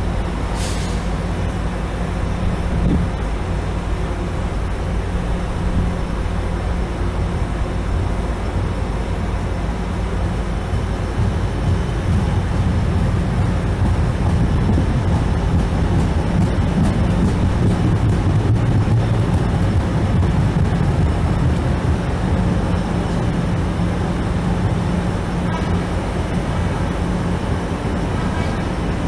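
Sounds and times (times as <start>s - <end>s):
light rail cars humming: 0.0s - 29.0s
low rumble of rail cars: 0.0s - 29.0s.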